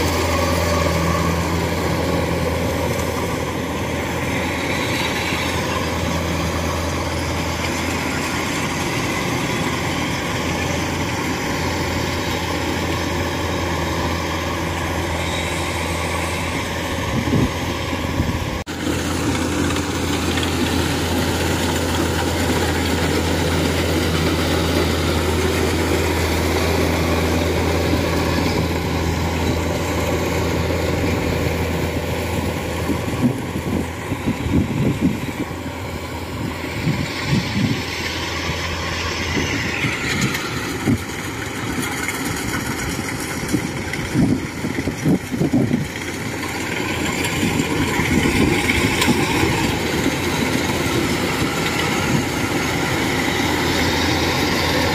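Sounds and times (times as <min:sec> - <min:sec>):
combine harvester engine drone: 0:00.0 - 0:54.9
threshing noise: 0:00.0 - 0:54.9.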